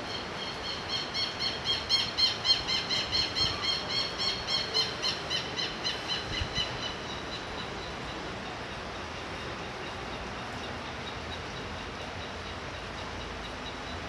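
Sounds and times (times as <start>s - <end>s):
rain hiss: 0.0s - 14.0s.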